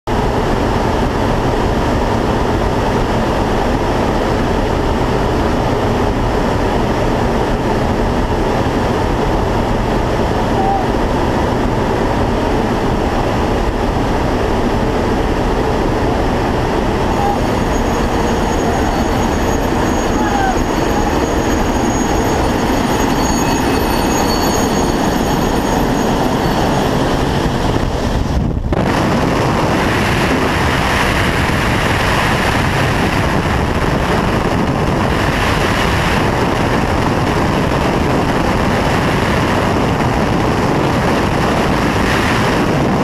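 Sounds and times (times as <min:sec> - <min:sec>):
aircraft engine drone: 0:00.1 - 0:43.0
wind rushing: 0:00.1 - 0:43.0.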